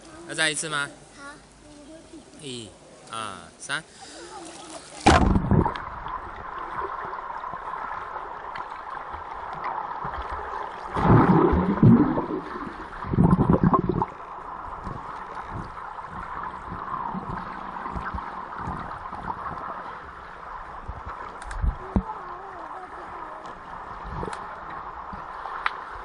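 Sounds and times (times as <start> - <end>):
muffled underwater hiss: 0.0 - 26.0
bubbling and churning water: 4.4 - 26.0.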